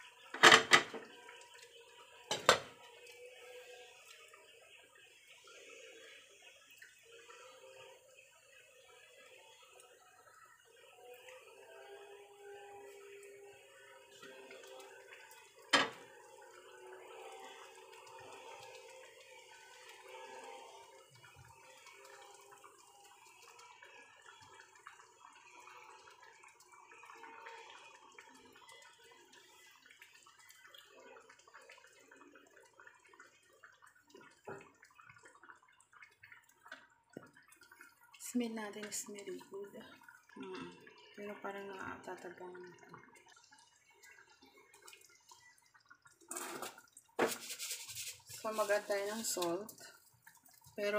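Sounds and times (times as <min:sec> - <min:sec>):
stew bubbling in a pot: 0:00.0 - 0:50.9.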